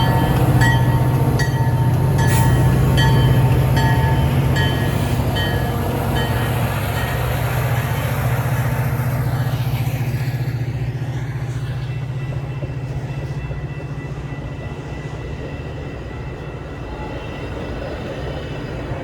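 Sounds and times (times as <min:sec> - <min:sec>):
diesel locomotive engine throb: 0:00.0 - 0:19.0.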